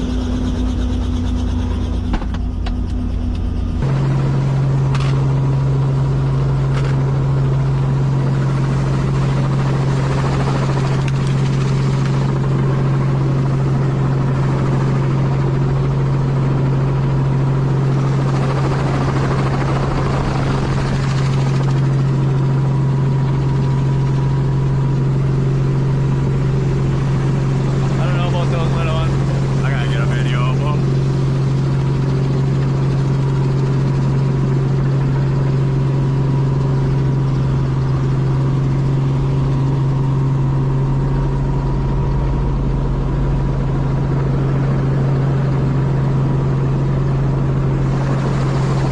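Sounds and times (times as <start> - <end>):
rushing drone: 0.0 - 15.6, 17.7 - 48.9
helicopter rotor and engine hum: 0.0 - 48.9.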